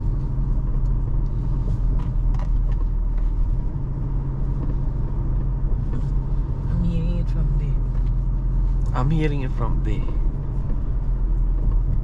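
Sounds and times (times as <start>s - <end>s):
pickup truck cabin rumble: 0.0s - 12.0s.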